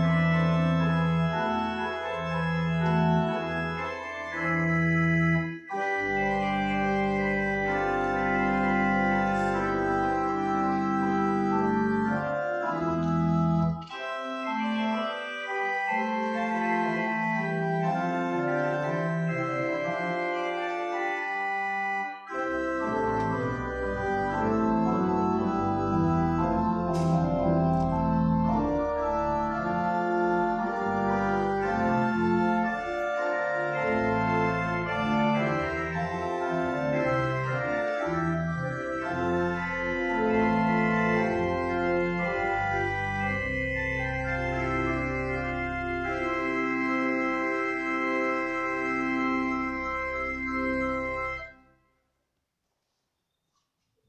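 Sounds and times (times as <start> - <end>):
church organ chords: 0.0 - 51.8.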